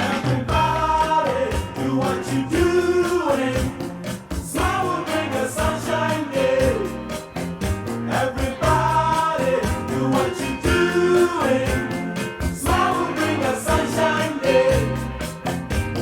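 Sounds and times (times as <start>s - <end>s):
pop song with singing and band: 0.0s - 16.0s.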